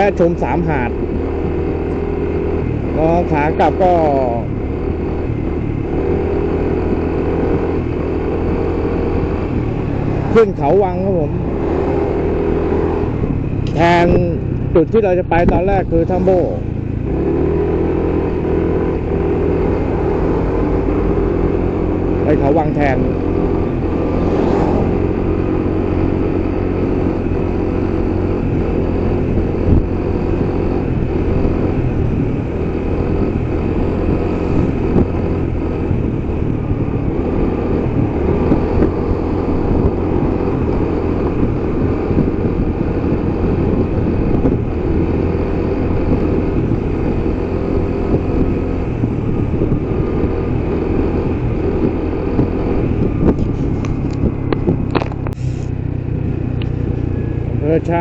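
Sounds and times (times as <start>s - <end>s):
car engine hum: 0.0s - 58.0s
tyres on road: 0.0s - 58.0s.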